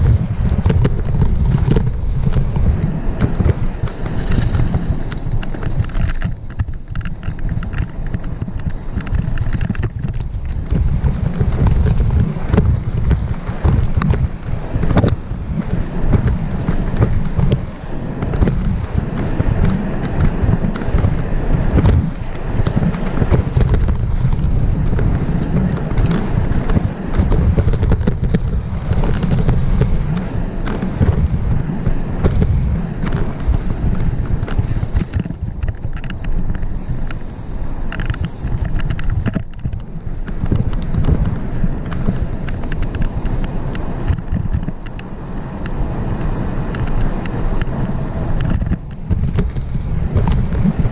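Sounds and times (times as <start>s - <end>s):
bike knocks and rattles: 0.0s - 50.9s
wind rushing over microphone: 0.0s - 50.9s.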